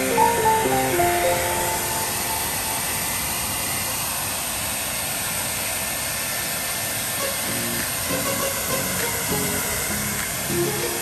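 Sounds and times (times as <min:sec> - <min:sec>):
blow dryer running: 0:00.0 - 0:11.0.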